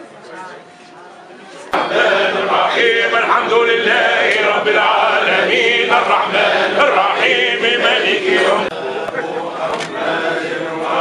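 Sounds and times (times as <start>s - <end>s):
men chanting together: 1.8s - 11.0s.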